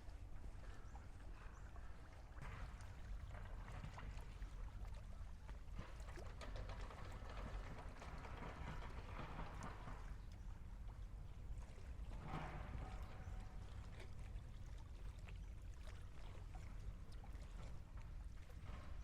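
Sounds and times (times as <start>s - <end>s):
water lapping: 0.0s - 19.0s.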